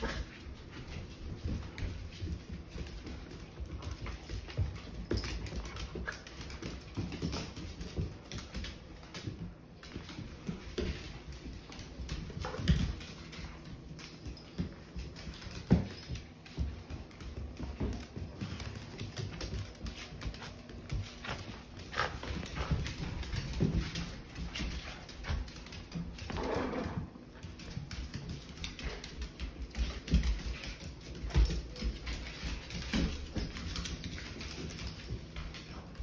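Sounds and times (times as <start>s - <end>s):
dogs play growling: 0.0s - 16.0s, 16.6s - 36.0s.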